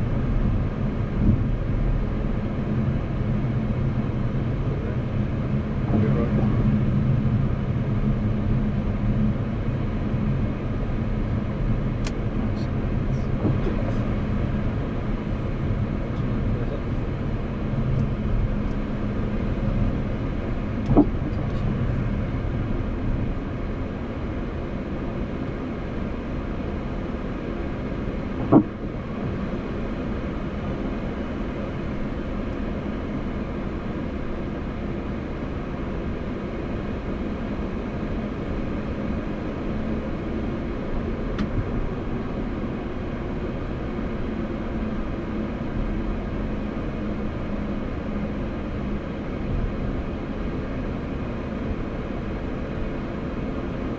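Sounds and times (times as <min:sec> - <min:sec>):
cockpit noise with low hum: 0:00.0 - 0:53.9.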